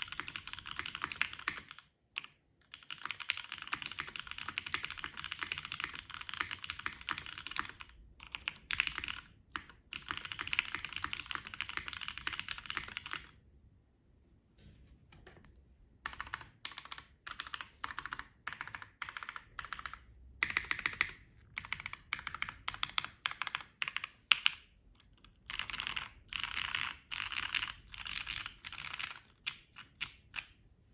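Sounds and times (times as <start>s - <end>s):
mechanical keyboard typing: 0.0s - 13.4s, 16.0s - 30.6s.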